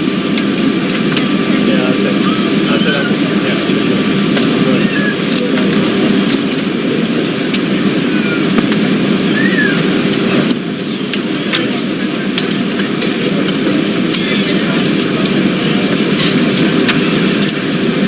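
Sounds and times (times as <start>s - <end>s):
airliner ventilation hum: 0.0s - 18.0s
indistinct passenger chatter: 0.0s - 18.0s.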